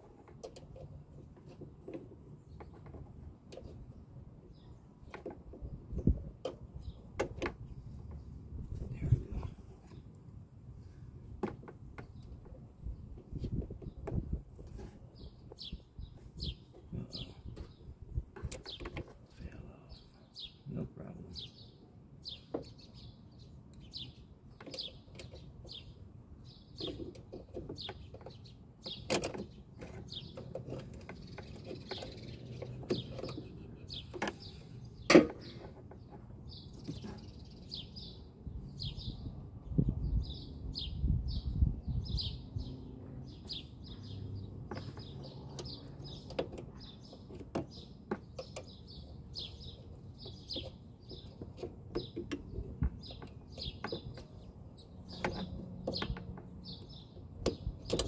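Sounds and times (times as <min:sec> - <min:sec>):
bird chirping: 0:00.1 - 0:10.2, 0:10.8 - 0:58.0.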